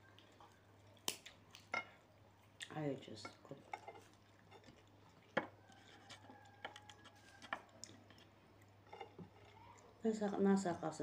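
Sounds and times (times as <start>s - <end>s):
quiet chewing: 0.0s - 11.0s.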